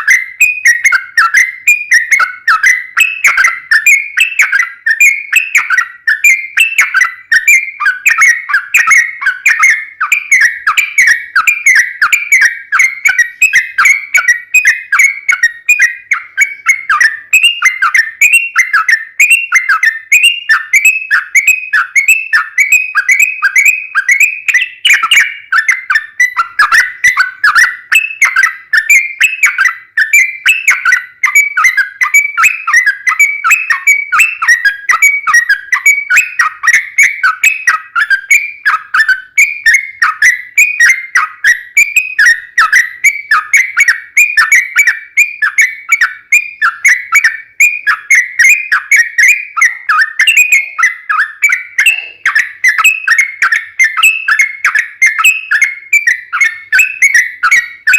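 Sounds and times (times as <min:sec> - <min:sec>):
bird singing whistled notes: 0:00.0 - 0:57.9.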